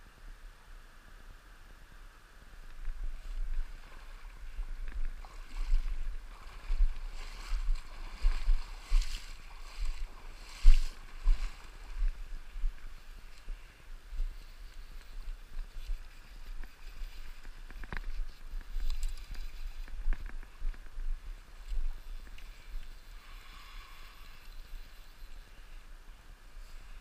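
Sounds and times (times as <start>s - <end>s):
low rumble on microphone: 0.0s - 27.0s
river water flowing and sloshing: 2.3s - 27.0s.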